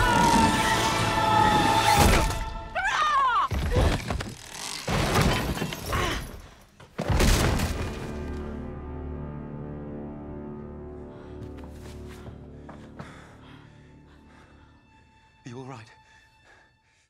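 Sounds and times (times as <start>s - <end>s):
dramatic film score: 0.0s - 17.0s.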